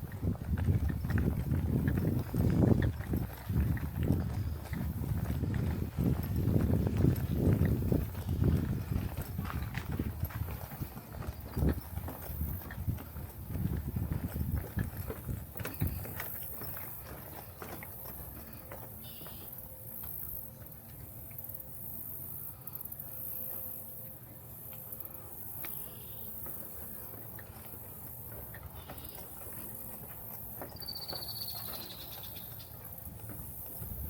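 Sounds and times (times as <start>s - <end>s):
footsteps on a trail: 0.0s - 34.0s.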